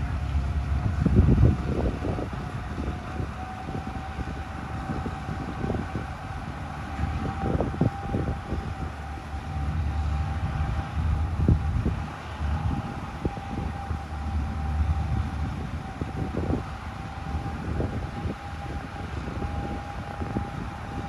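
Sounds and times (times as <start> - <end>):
distant tractor engine drone: 0.0 - 21.0
thin steady hum: 0.0 - 21.0
wind buffeting microphone: 0.0 - 21.0.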